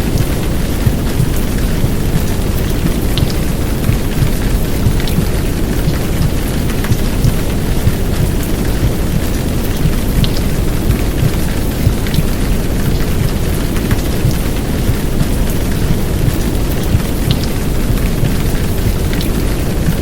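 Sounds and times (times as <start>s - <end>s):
heavy rain downpour: 0.0s - 20.0s.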